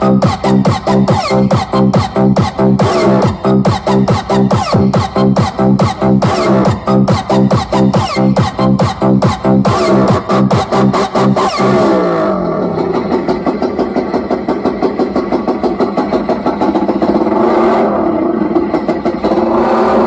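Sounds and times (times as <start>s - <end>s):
loud electronic dance music: 0.0s - 20.0s.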